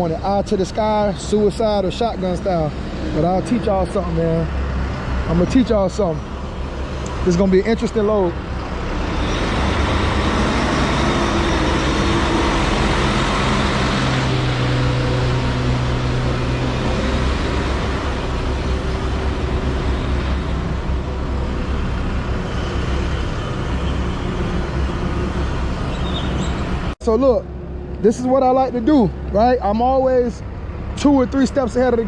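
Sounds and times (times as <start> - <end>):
second engine hum: 0.0 - 32.0.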